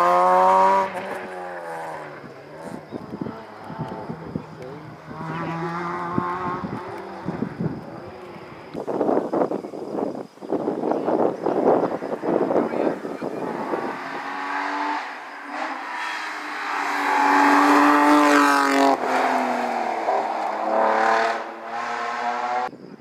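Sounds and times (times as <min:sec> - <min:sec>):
rally car engine accelerating: 0:00.0 - 0:08.8, 0:11.6 - 0:22.7.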